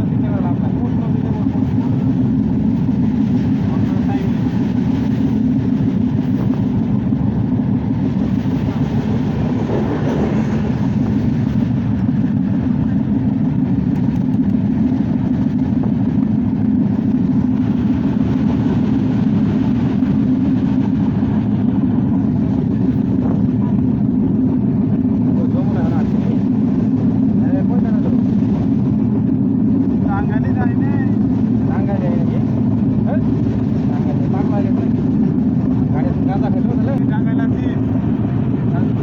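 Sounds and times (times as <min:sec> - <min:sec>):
passenger train rumbling: 0:00.0 - 0:39.0.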